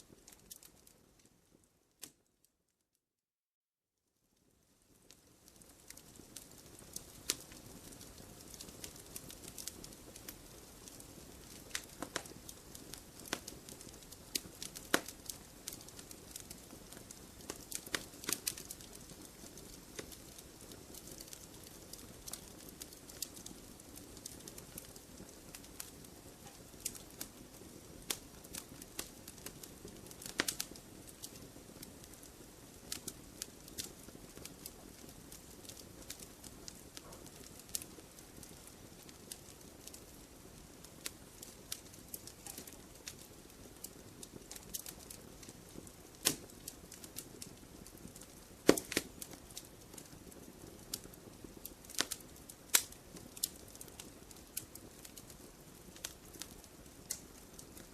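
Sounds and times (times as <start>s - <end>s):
campfire pops and crackles: 0.0s - 1.4s, 4.7s - 57.9s.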